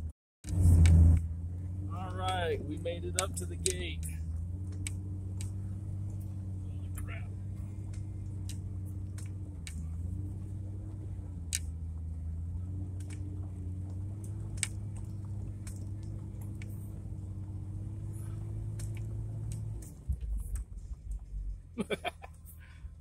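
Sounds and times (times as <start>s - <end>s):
vehicle engine running: 0.0s - 23.0s
sharp clicks and ticks: 2.0s - 22.6s.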